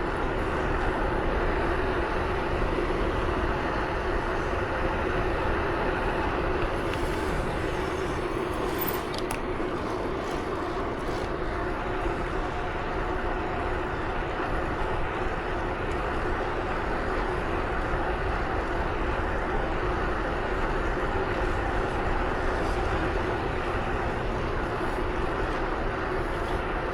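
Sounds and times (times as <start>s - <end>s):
engine drone: 0.0s - 26.9s
wind and road noise: 0.0s - 26.9s.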